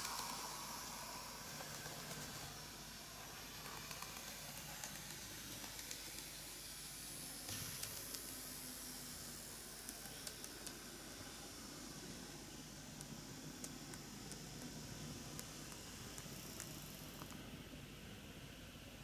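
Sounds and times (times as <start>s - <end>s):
model train motor hum: 0.0s - 17.6s
steady hiss: 0.0s - 19.0s.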